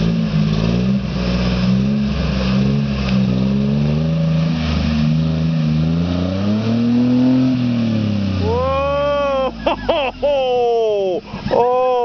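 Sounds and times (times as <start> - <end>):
car engine revving under load: 0.0 - 11.6.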